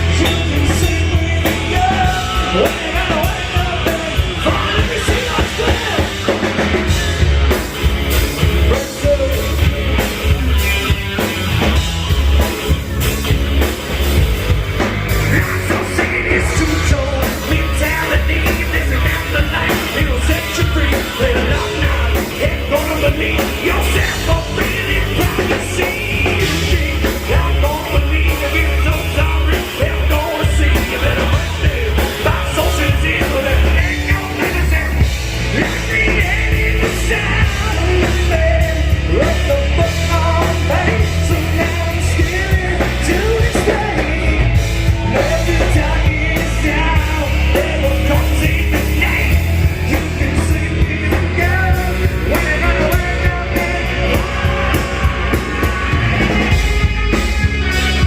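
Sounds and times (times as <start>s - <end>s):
man singing forcefully: 0.0s - 12.5s, 14.1s - 58.0s
bass guitar: 0.0s - 58.0s
distorted electric guitars: 0.0s - 58.0s
drum kit: 0.0s - 58.0s.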